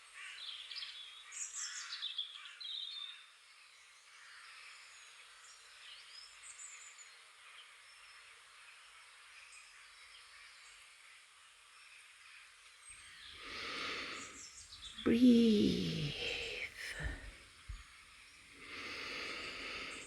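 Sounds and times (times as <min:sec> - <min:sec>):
songbirds chirping and trilling: 0:00.3 - 0:20.0
steady outdoor hiss: 0:03.5 - 0:20.0.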